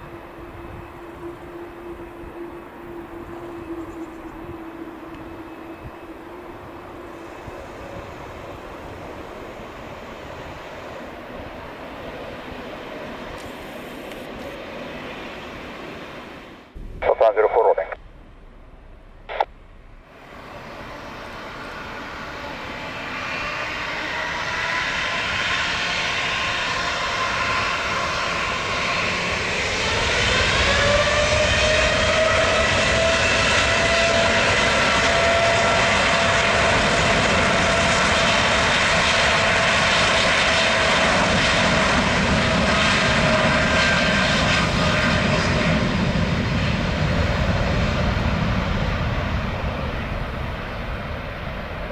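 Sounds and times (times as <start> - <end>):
jet engines spooling up: 0.0 - 51.9.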